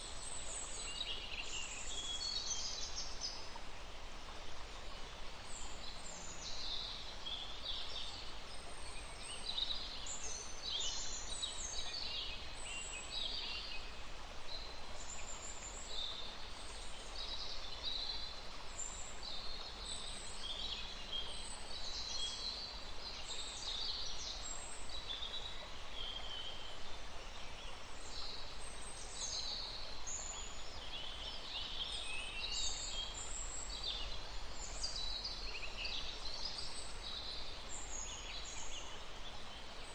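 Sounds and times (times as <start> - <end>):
low background hiss: 0.0 - 39.9.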